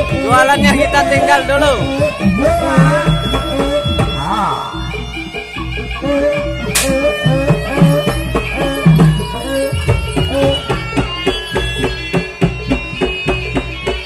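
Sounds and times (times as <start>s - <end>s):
hand drums beating: 0.0s - 5.4s, 6.4s - 14.0s
reedy wind melody: 0.0s - 14.0s.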